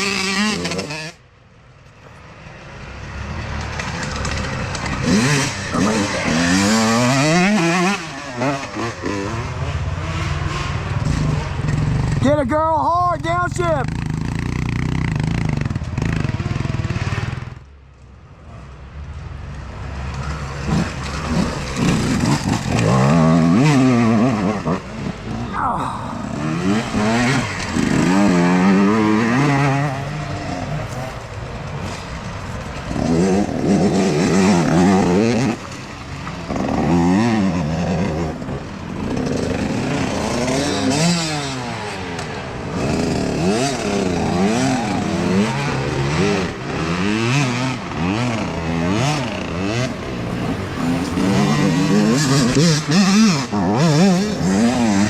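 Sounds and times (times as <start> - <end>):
dirt bike engines revving: 0.0 - 17.7, 18.3 - 55.0.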